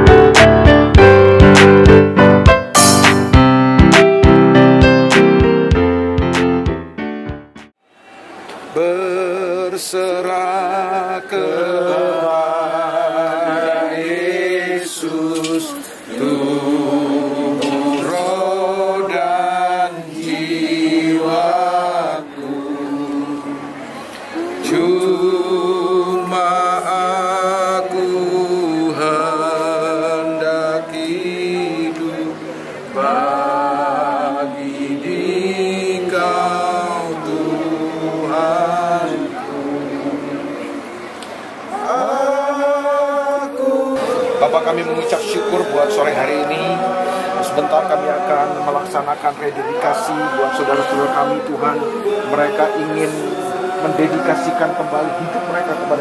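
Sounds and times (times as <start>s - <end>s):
group singing a hymn: 8.7s - 56.0s.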